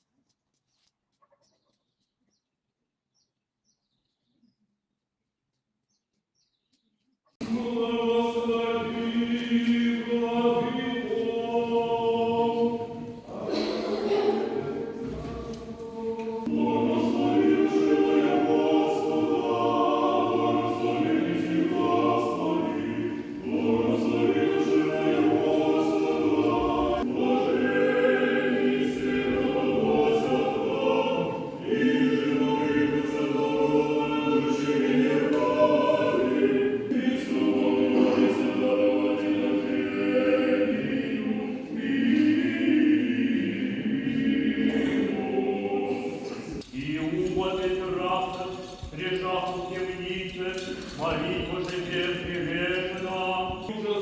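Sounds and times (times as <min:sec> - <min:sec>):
men's choir chanting a cappella: 0:07.4 - 0:54.0.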